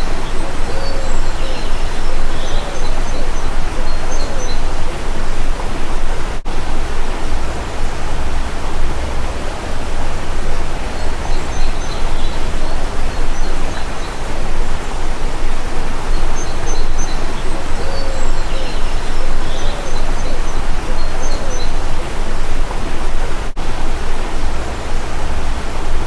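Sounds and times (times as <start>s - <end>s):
faint high bird chirps: 0.0s - 5.6s, 7.0s - 22.6s.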